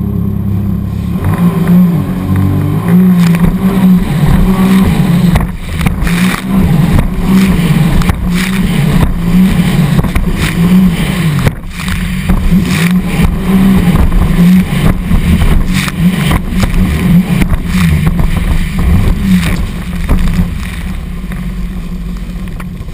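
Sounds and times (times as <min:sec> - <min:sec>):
personal watercraft engine: 0:00.0 - 0:22.9
spray and hull slaps on waves: 0:02.3 - 0:22.9.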